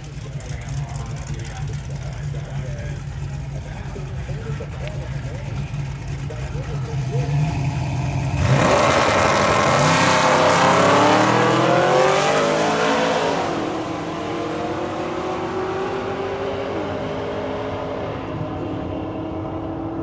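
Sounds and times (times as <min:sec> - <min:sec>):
drag car accelerating hard: 0:00.0 - 0:20.0.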